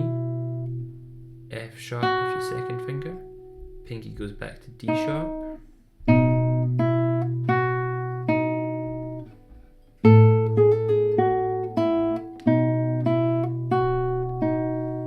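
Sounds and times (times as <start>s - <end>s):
guitar plucking single notes: 0.0s - 15.0s.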